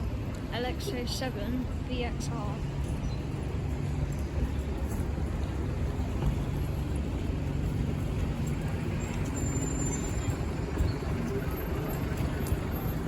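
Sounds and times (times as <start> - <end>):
bus engine humming: 0.0 - 13.0
road noise: 0.0 - 13.0.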